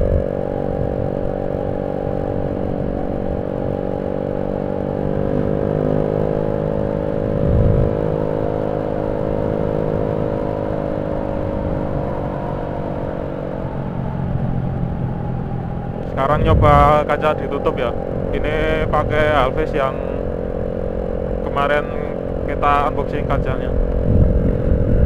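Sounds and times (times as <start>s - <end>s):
motorcycle engine drone: 0.0s - 25.0s
wind buffeting microphone: 0.0s - 25.0s.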